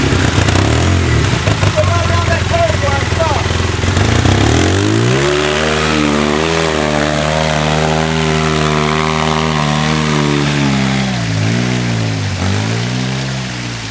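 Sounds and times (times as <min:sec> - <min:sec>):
off-road vehicle engine revving: 0:00.0 - 0:13.9.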